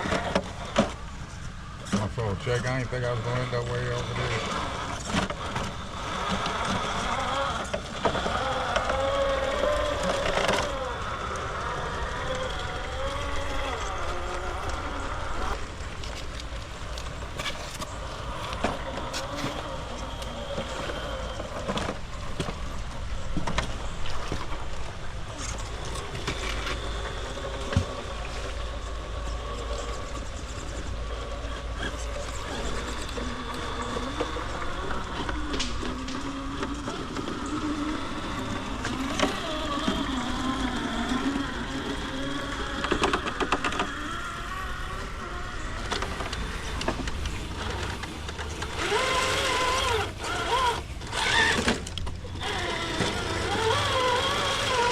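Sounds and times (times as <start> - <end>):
electric motor and gearbox whining: 0.0 - 54.9.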